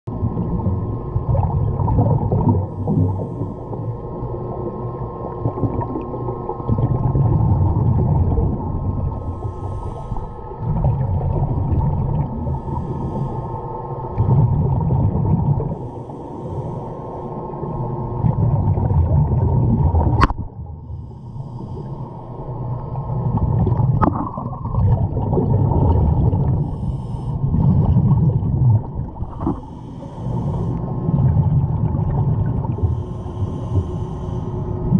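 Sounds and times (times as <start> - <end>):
underwater bubbles rumbling: 0.1 - 34.9.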